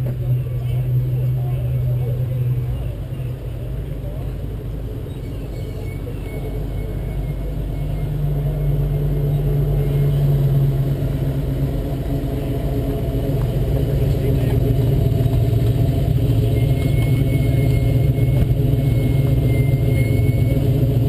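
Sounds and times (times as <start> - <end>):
car engine idling: 0.0 - 21.0
cars driving past: 0.0 - 21.0.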